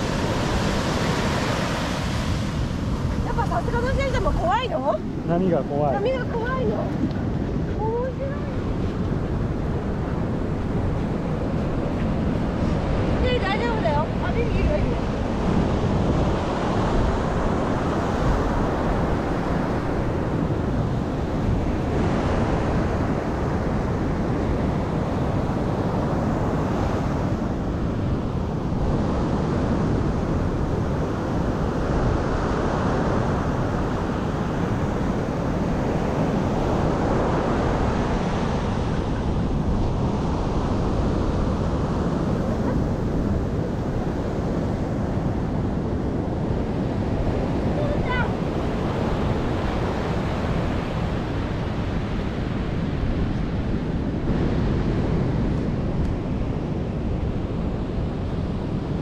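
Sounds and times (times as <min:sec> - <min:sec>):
waves breaking on beach: 0:00.0 - 0:59.0
wind buffeting microphone: 0:00.0 - 0:59.0.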